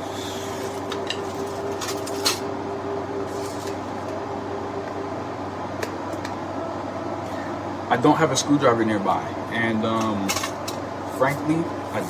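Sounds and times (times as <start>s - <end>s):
room hum with held tone: 0.0s - 12.0s.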